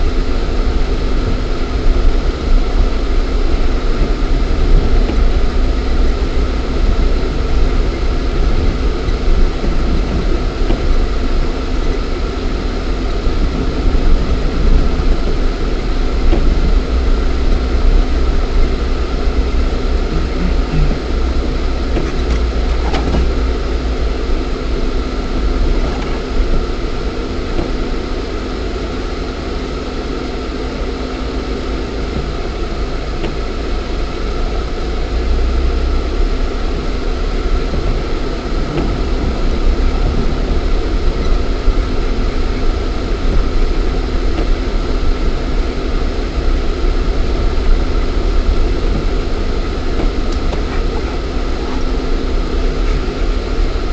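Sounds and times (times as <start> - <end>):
car engine rumble from inside: 0.0 - 53.9.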